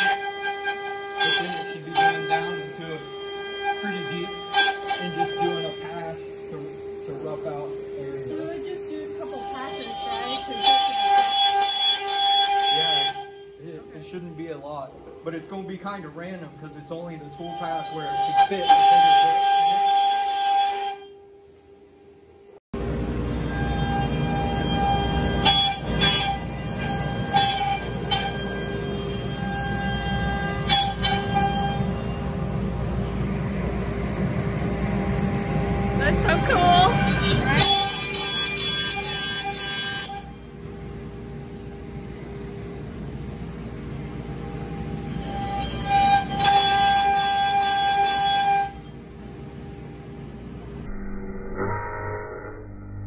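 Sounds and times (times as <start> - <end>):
router spindle whine: 0.0 - 53.0.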